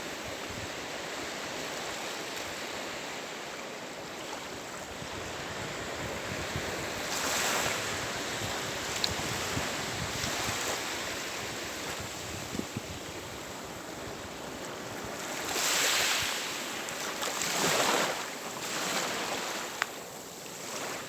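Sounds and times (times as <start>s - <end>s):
sea waves washing ashore: 0.0s - 21.0s.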